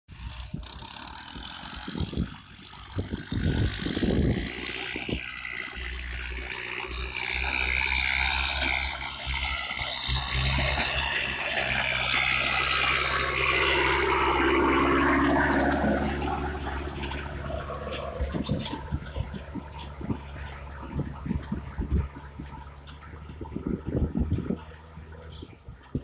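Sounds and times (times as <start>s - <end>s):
harrow rushing through soil: 0.1s - 26.0s
tractor engine running: 0.1s - 26.0s.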